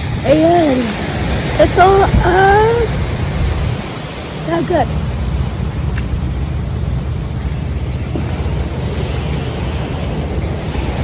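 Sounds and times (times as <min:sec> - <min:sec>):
sea surf washing ashore: 0:00.0 - 0:11.0
wind buffeting microphone: 0:00.0 - 0:11.0.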